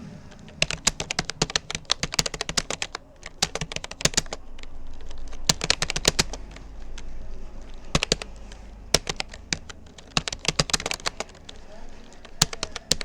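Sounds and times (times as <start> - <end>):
computer keyboard typing: 0.3 - 13.0.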